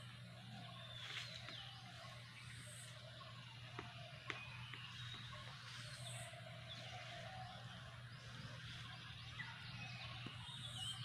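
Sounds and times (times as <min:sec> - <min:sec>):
bird chirps: 0:00.0 - 0:11.0
low steady hum: 0:00.0 - 0:11.0.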